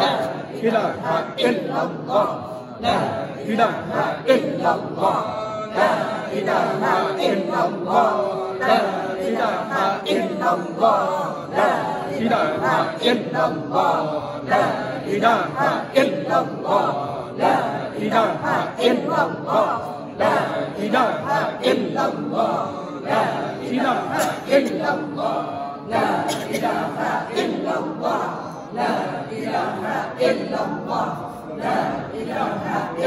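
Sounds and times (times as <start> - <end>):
group chanting prayer: 0.0 - 33.0.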